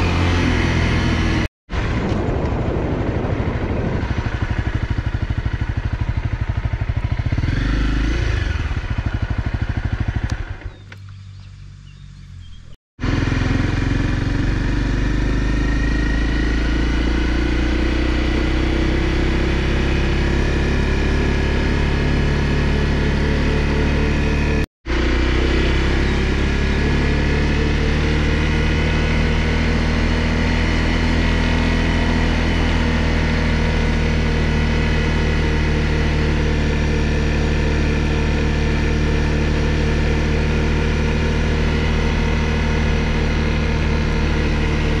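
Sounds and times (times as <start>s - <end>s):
motorcycle engine running steadily: 0.0s - 45.0s.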